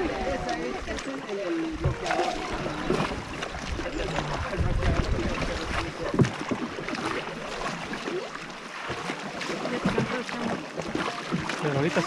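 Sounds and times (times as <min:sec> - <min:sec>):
paddles splashing in water: 0:00.0 - 0:12.0.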